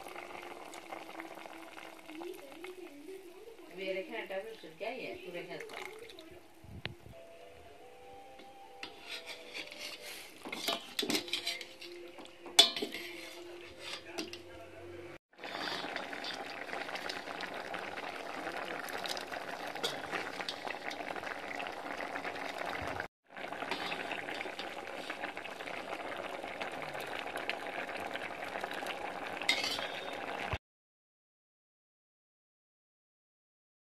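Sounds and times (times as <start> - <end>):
milk boiling in steel pot: 0.0 - 6.5, 8.8 - 14.5, 15.3 - 30.6.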